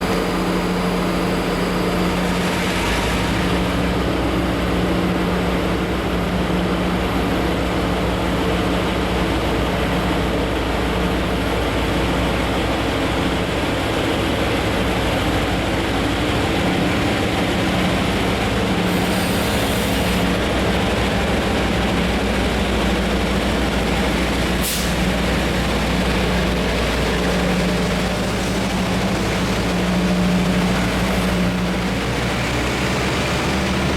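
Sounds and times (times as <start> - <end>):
train humming at platform: 0.0 - 33.9.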